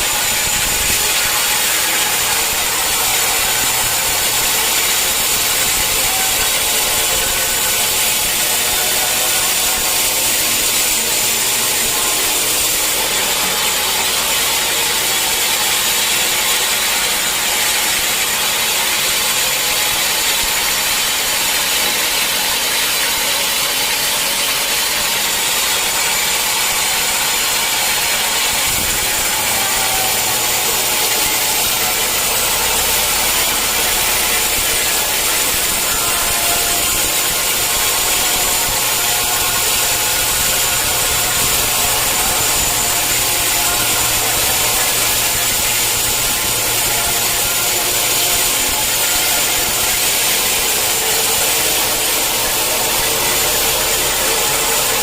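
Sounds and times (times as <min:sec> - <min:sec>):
low machine hum: 0:00.0 - 0:21.6, 0:25.4 - 0:55.0
saw cutting through log: 0:00.0 - 0:55.0.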